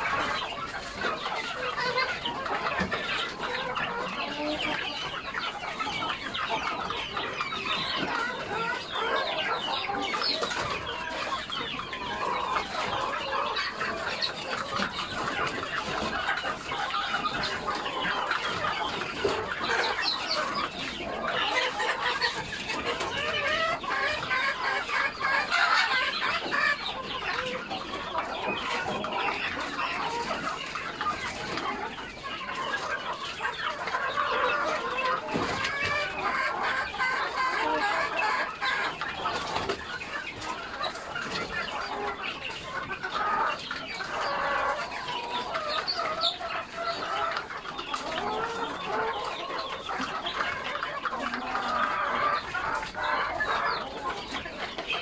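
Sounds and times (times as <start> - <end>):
flock of chickens clucking: 0.0 - 55.0.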